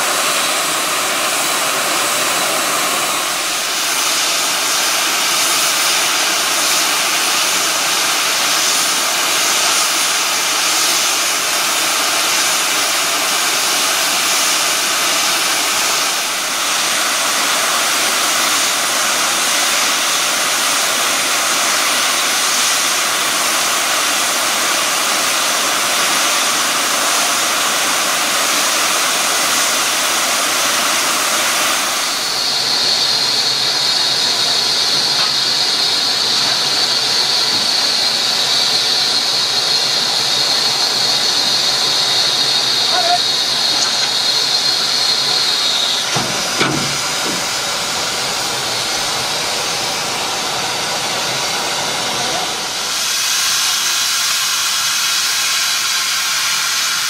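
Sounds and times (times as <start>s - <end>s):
steam locomotive hissing: 0.0s - 57.0s.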